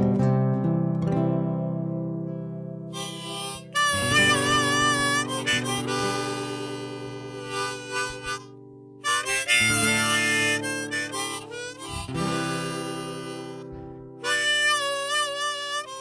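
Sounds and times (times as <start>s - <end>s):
folk band playing: 3.0s - 16.0s.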